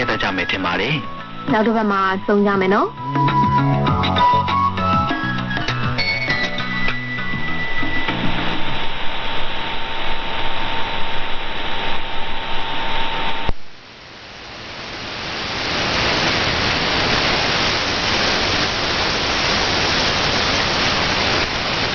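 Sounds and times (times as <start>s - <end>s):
radio static hiss: 0.0s - 2.9s, 6.7s - 21.9s.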